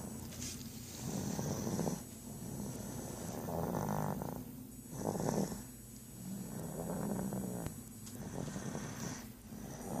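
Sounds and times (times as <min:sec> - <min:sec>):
person snoring: 0:01.0 - 0:10.0.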